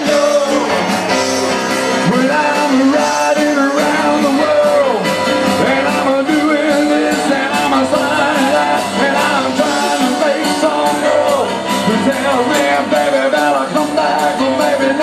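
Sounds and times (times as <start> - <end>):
drum kit beat: 0.0 - 15.0
man singing: 0.0 - 15.0
piano keyboard chords: 0.0 - 15.0.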